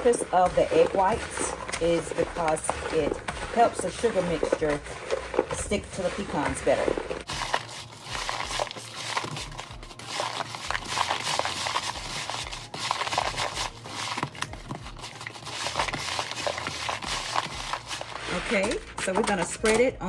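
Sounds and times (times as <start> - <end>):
nuts rattling in plastic bowl: 0.0 - 19.7.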